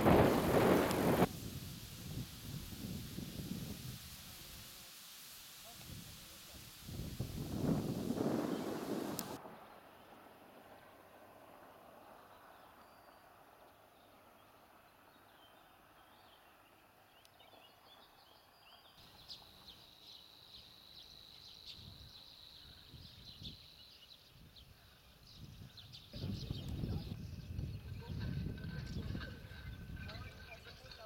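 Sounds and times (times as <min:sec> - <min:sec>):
soft outdoor hiss: 0:00.0 - 0:31.0.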